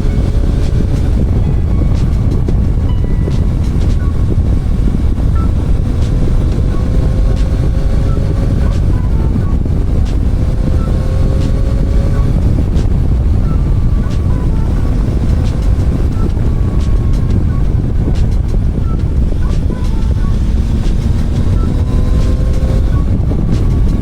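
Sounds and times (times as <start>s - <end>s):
motorcycle engine: 0.0s - 24.0s
wind rumble on microphone: 0.0s - 24.0s.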